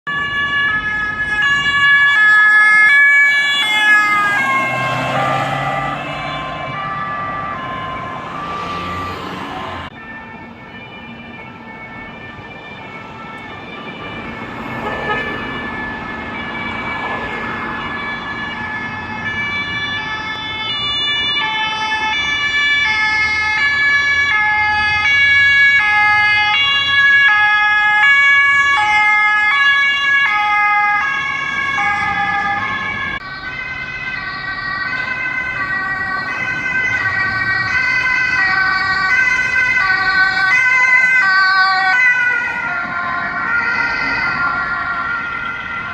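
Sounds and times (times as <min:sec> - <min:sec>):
police two-tone siren: 0:00.1 - 0:45.9.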